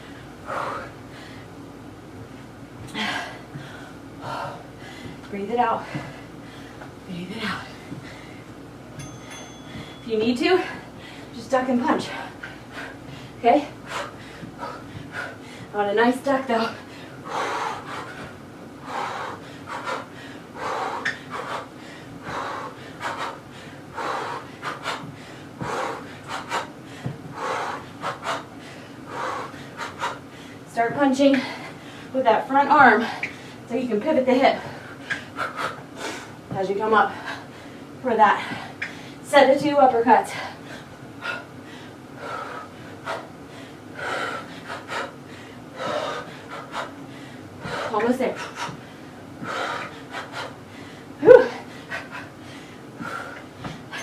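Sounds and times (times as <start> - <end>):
woman breathing forcefully: 0.0 - 1.8, 2.8 - 39.3, 40.1 - 54.0.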